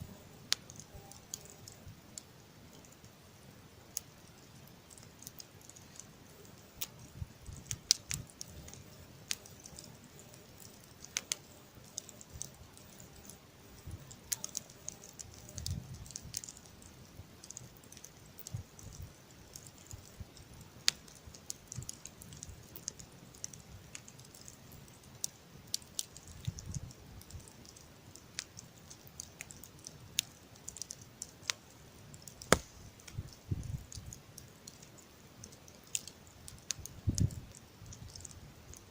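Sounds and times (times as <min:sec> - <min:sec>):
campfire crackling: 0:00.0 - 0:38.9
faint hiss: 0:00.0 - 0:38.9.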